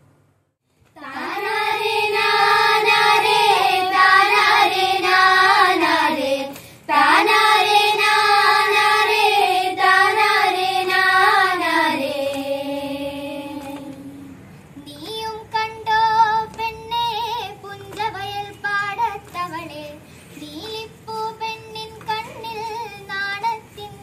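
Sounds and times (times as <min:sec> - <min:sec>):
girls singing in unison: 0:01.0 - 0:24.0.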